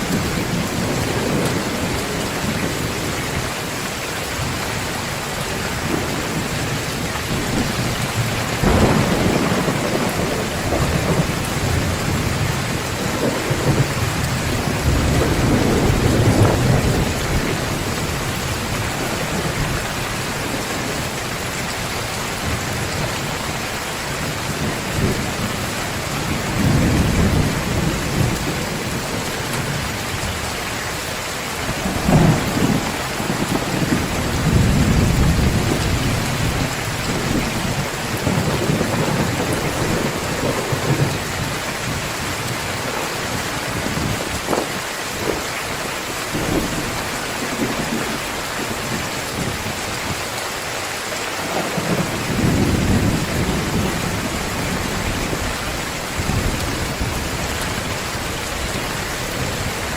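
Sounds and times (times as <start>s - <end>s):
thunder rumbling: 0.0s - 50.2s, 51.4s - 59.9s
heavy rain pouring: 0.0s - 59.9s.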